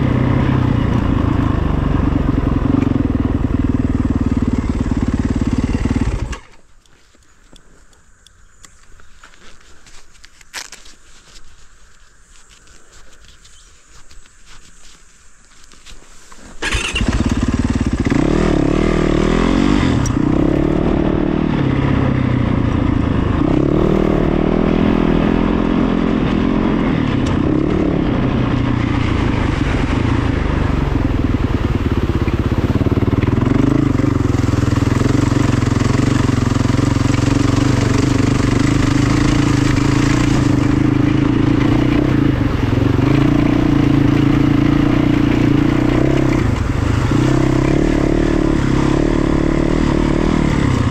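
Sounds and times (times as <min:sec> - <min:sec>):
engine running: 0:00.0 - 0:06.7, 0:16.5 - 0:50.9.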